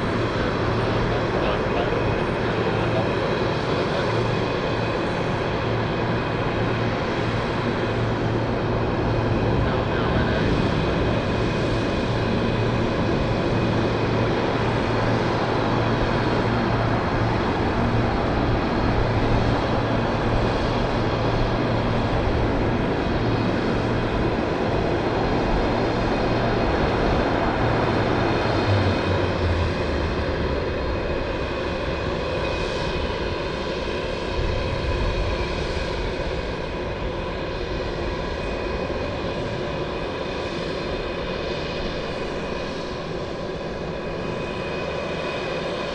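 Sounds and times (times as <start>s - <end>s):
turbine whine: 0.0s - 45.9s
turboprop engines running: 0.0s - 45.9s.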